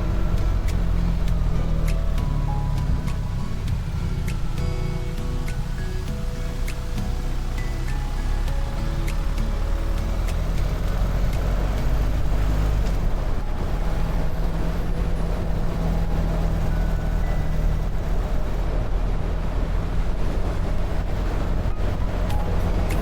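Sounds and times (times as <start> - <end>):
road noise: 0.0 - 23.0
wind noise: 0.0 - 23.0.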